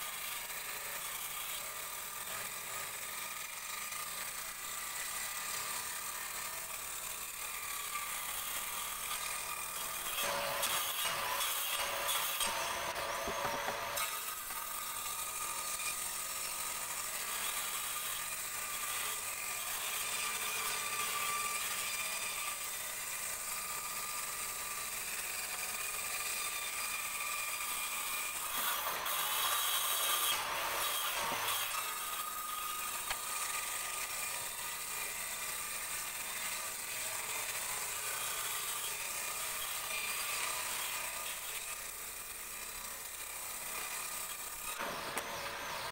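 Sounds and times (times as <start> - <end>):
circular saw cutting wood: 0.0 - 45.9.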